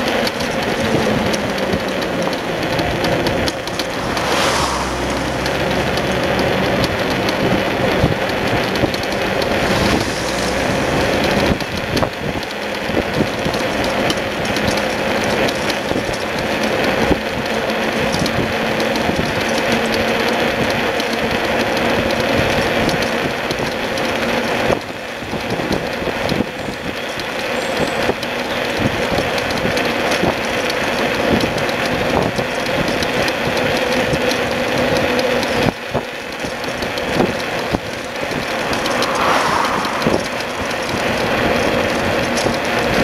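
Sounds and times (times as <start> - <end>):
trailer rolling over pavement: 0.0 - 43.0.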